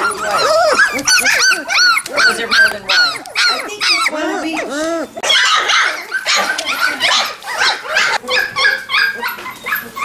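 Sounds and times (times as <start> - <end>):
puppies yipping and whimpering: 0.0 - 10.0.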